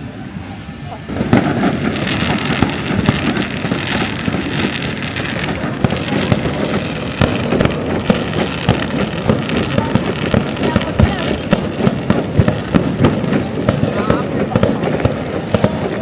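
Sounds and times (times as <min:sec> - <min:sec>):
fireworks crackling: 0:00.0 - 0:16.0
loud firework bangs: 0:00.0 - 0:16.0.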